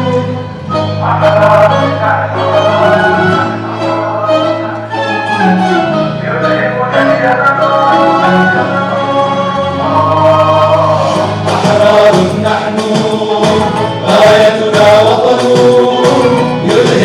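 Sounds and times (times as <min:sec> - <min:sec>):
male group chanting into microphones: 0:01.0 - 0:05.3, 0:06.2 - 0:17.0.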